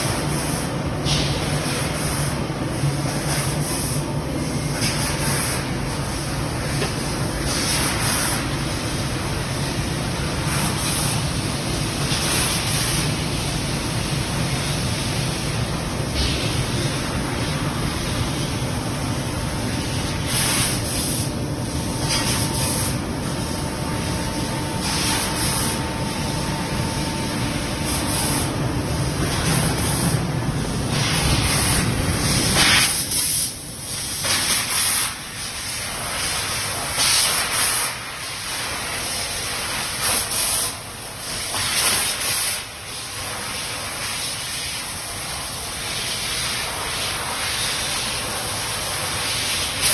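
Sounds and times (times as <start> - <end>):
laser cutting machine hiss: 0.0 - 49.9.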